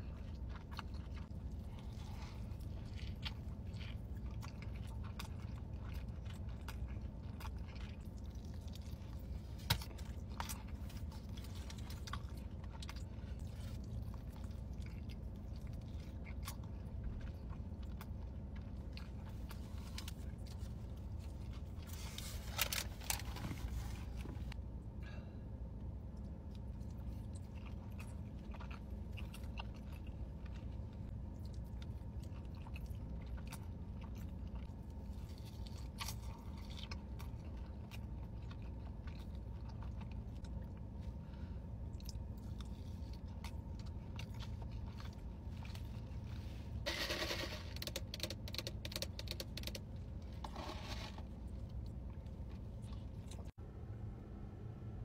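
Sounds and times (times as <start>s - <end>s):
person chewing food: 0.0s - 25.0s, 25.8s - 53.6s
low hum: 0.0s - 55.0s.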